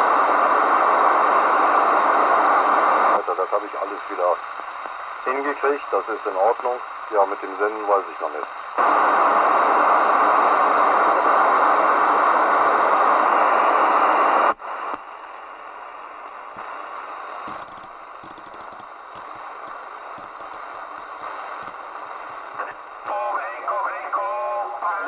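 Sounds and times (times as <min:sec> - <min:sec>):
crackles and clicks: 0:00.0 - 0:05.3, 0:08.4 - 0:23.3
radio static hiss: 0:00.0 - 0:25.0.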